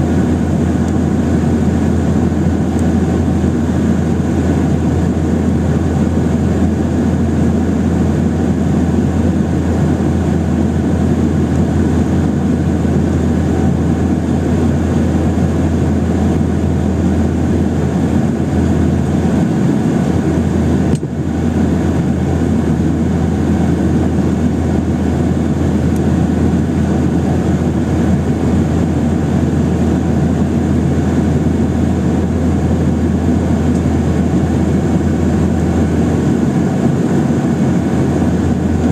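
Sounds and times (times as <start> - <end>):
jet engine cabin drone: 0.0 - 38.9.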